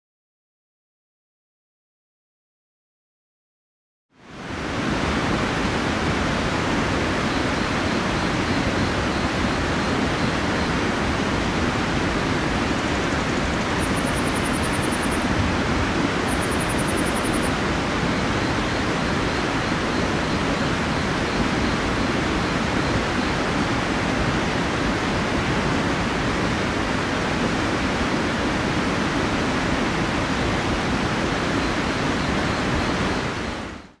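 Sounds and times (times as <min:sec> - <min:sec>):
river water rushing over rocks: 0:04.3 - 0:33.7.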